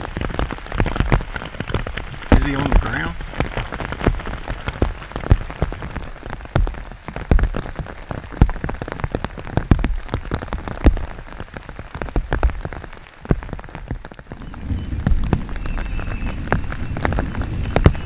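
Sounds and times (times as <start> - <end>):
heavy raindrops tapping surface: 0.0 - 18.0
rain patter: 0.0 - 18.0.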